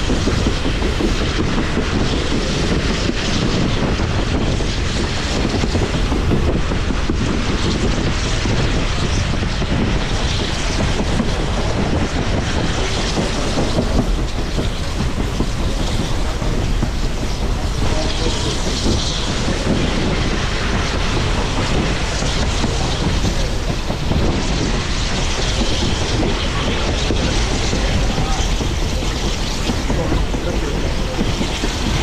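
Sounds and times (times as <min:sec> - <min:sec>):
train wheels rumbling on track: 0:00.0 - 0:32.0
wheels clickety-clack over rail joints: 0:00.0 - 0:32.0.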